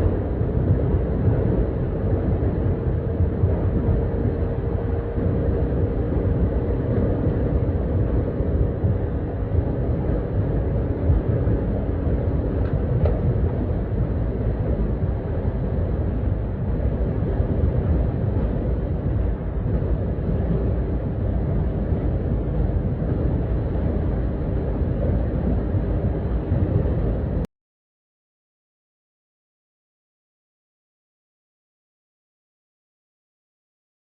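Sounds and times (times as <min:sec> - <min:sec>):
car interior road and wind rumble: 0:00.0 - 0:27.5
faint engine hum: 0:00.0 - 0:27.5.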